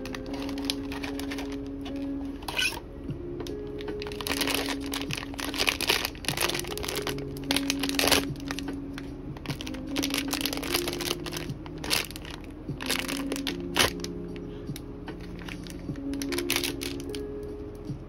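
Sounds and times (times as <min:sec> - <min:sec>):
plastic pouch crinkling: 0:00.0 - 0:02.8, 0:03.8 - 0:14.2, 0:15.2 - 0:17.2.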